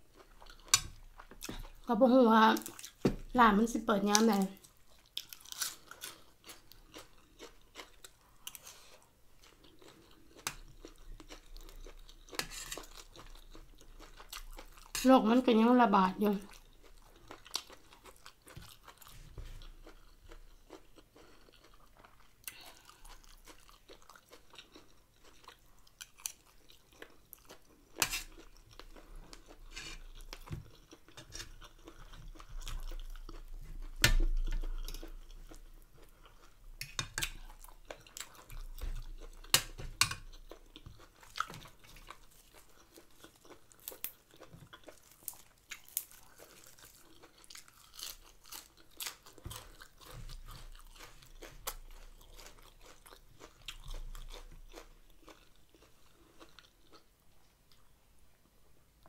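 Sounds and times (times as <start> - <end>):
close-miked chewing with crunches: 0.0 - 58.0.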